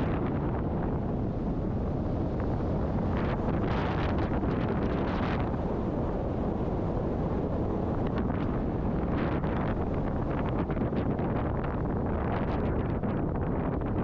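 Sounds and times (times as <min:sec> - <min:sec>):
engine and propeller drone: 0:00.0 - 0:12.2
wind buffeting microphone: 0:00.0 - 0:14.0.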